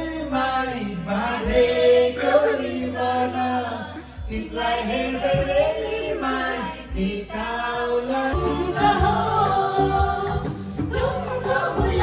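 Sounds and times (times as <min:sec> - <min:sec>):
group of people singing: 0:00.0 - 0:12.0.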